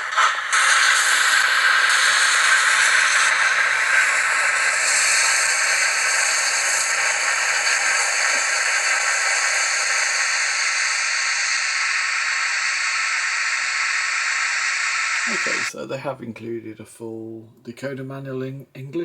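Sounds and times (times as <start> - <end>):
steam hiss: 0.0 - 15.9.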